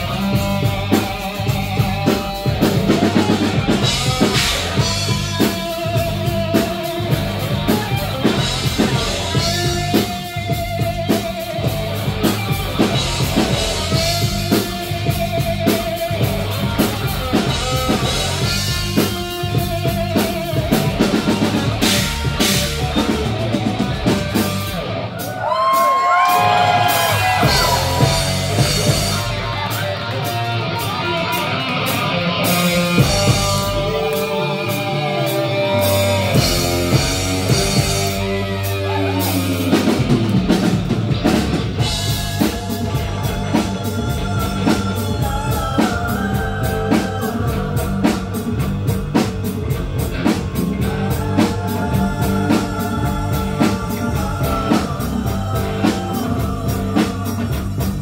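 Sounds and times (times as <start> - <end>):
electric guitar lead lines: 0.0 - 25.8, 26.4 - 58.0
drum kit beat: 0.0 - 58.0.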